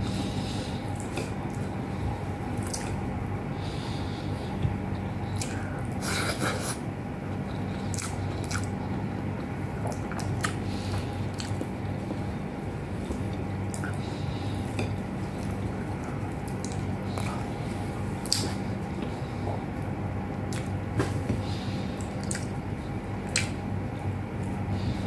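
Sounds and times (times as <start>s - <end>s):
steady low hum: 0.0s - 25.0s
person chewing food: 0.5s - 3.1s, 4.0s - 6.7s, 7.3s - 24.9s.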